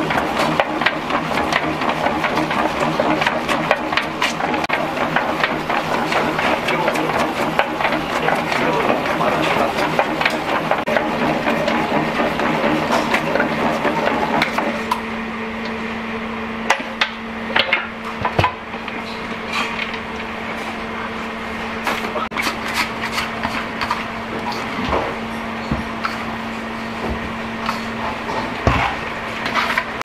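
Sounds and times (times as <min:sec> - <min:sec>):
stand mixer kneading dough: 0:00.0 - 0:30.0.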